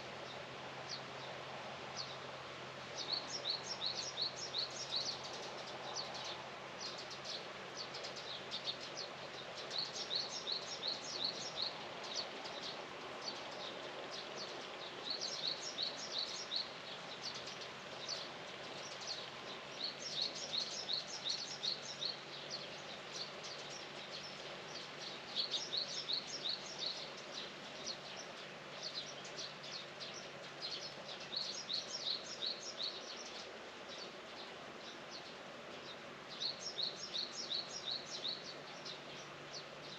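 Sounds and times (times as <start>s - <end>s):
outdoor background noise: 0.0s - 39.9s
songbird chirping: 2.9s - 39.9s.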